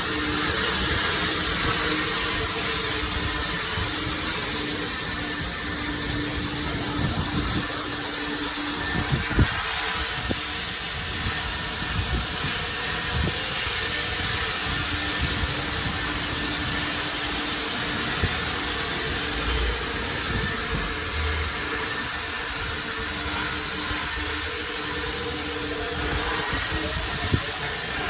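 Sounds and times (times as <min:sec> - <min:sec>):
water spraying hiss: 0:00.0 - 0:28.0.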